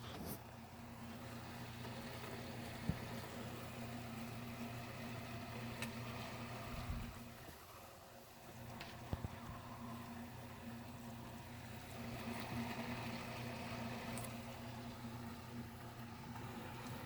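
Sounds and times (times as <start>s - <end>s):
refrigerator compressor humming: 0.0s - 17.0s.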